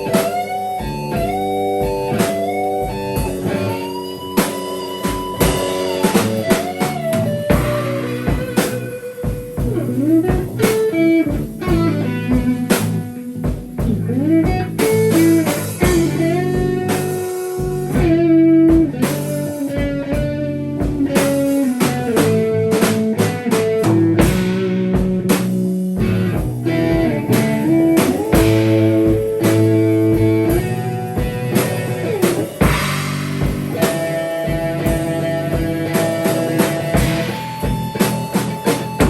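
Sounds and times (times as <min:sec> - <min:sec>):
drum kit: 0:00.0 - 0:39.0
electric guitar bending notes: 0:00.0 - 0:39.0.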